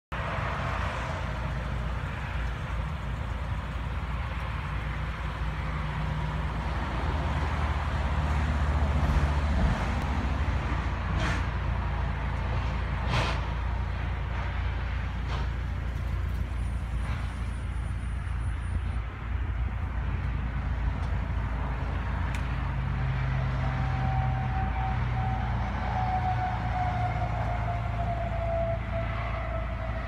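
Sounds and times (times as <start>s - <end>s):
tram engine drone: 0.1s - 30.0s.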